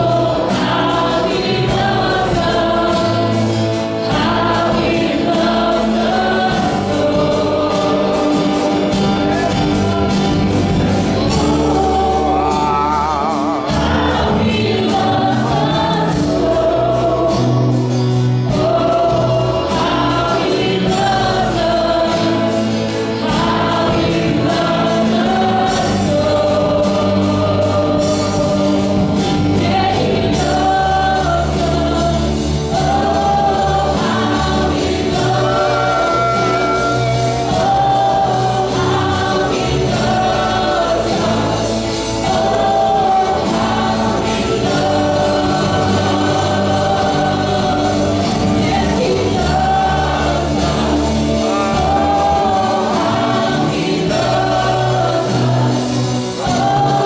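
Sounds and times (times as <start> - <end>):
choir singing gospel song: 0.0 - 57.0
full band with steady beat: 0.0 - 57.0.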